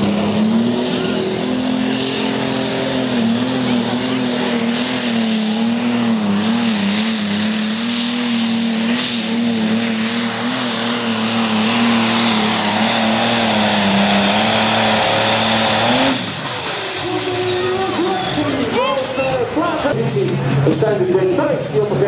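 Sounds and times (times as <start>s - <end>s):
diesel tractor engine under load: 0.0s - 20.7s.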